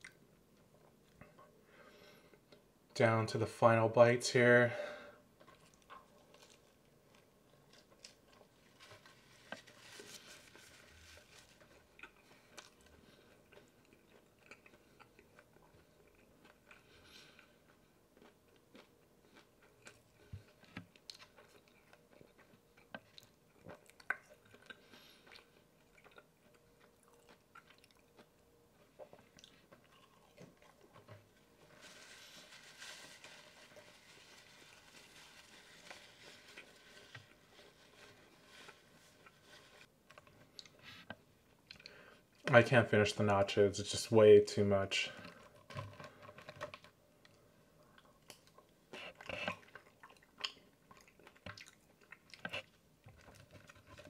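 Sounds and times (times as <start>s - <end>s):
person chewing food: 5.2s - 42.4s, 45.2s - 54.0s.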